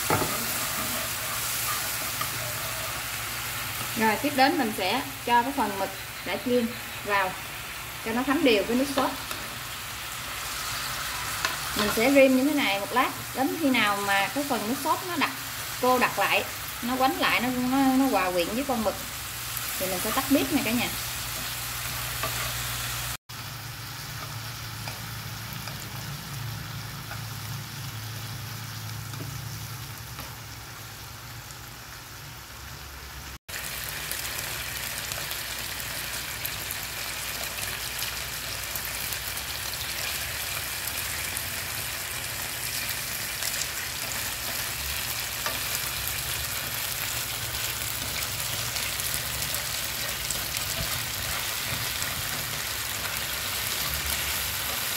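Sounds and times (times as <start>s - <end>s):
squid sizzling in a frying pan: 0.0s - 54.9s.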